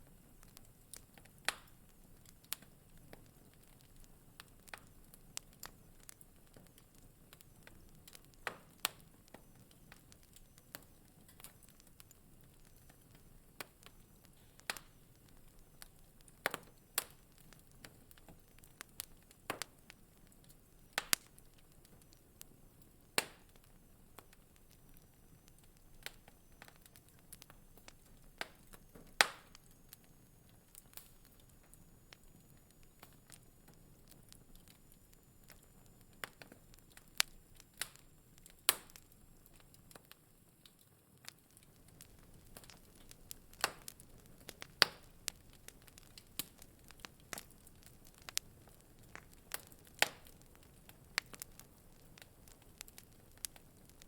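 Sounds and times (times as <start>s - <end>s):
faint low hiss: 0.0s - 54.0s
wood fire crackling: 0.0s - 54.0s.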